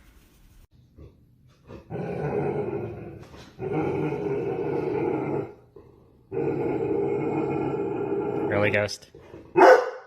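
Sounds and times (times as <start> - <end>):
dog growling: 0.8 - 9.7.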